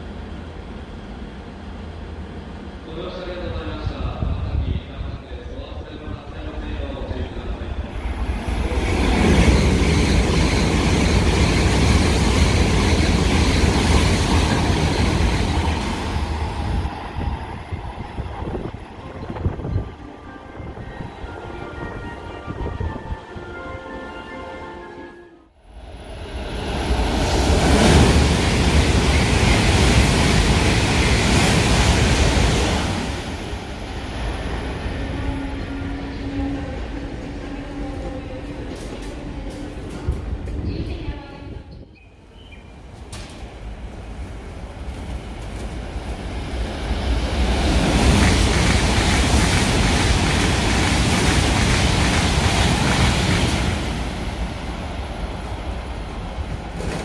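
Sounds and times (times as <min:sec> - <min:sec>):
high-speed train rushing past: 0:00.0 - 0:57.0.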